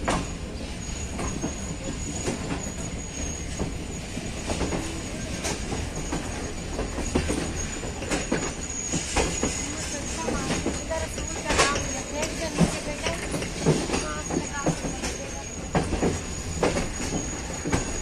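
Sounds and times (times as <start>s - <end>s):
train carriage rumble: 0.0s - 18.0s
wheels clicking over rail joints: 3.6s - 18.0s.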